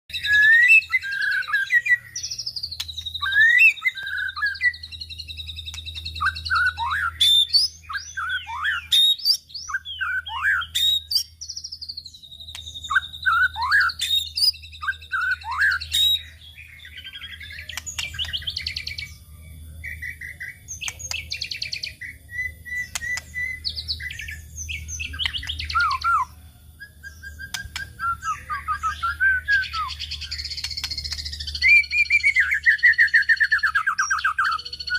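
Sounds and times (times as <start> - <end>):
songbird whistles and trills: 0.1 - 34.9.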